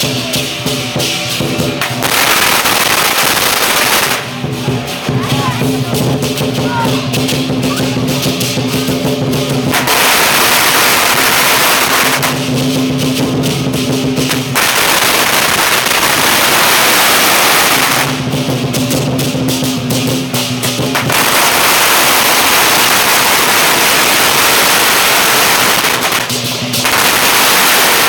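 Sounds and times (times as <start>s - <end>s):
cymbals crashing: 0.0s - 28.0s
drum playing: 0.0s - 28.0s
firecrackers crackling: 0.0s - 28.0s.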